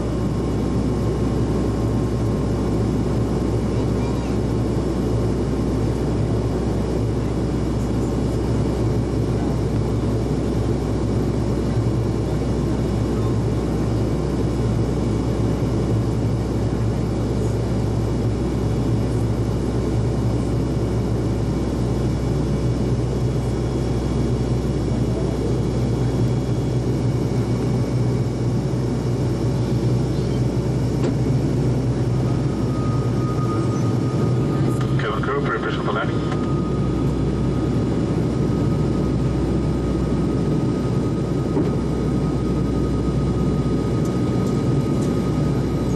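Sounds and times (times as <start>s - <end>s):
airliner engines and propellers droning: 0.0s - 45.9s
constant low hum: 0.0s - 45.9s.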